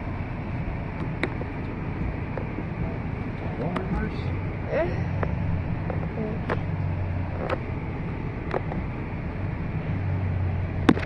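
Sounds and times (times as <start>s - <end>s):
car road and engine hum: 0.0s - 11.0s.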